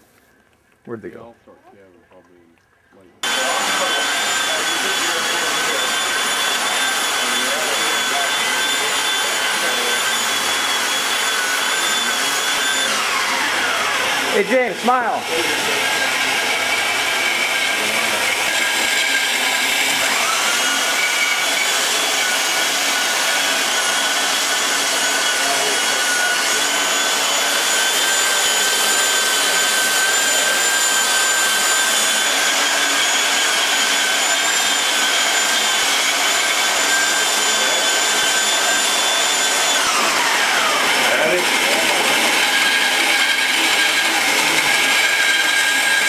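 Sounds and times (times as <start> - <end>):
motor-driven blower rushing: 3.2 - 46.0.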